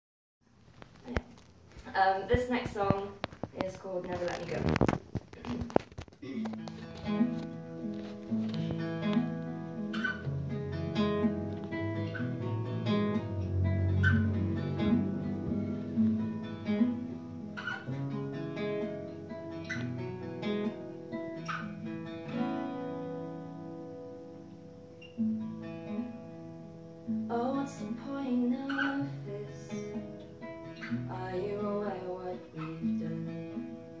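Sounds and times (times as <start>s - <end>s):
acoustic guitar strumming: 4.4s - 34.0s.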